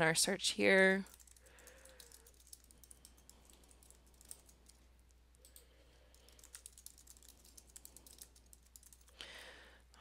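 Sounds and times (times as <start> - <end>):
soft keyboard clicks: 1.1 - 9.2.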